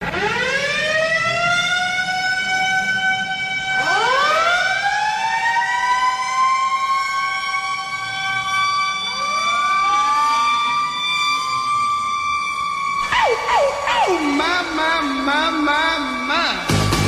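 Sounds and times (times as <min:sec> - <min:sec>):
goal horn siren wailing: 0:00.0 - 0:17.0
higher siren wail: 0:00.0 - 0:17.0.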